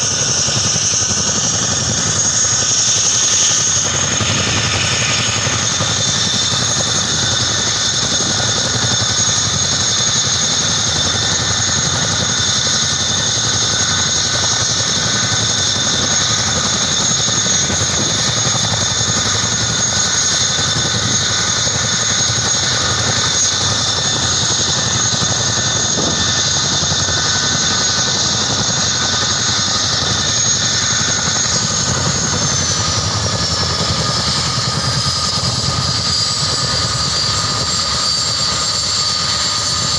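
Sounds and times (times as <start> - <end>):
helicopter turbine whine: 0.0 - 39.9
rumbling rotor noise: 0.0 - 39.9.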